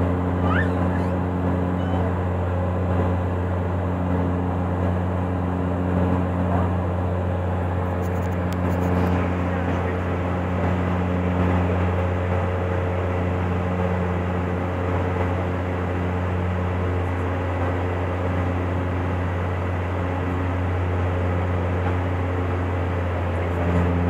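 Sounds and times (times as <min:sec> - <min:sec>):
propeller hum: 0:00.0 - 0:24.0.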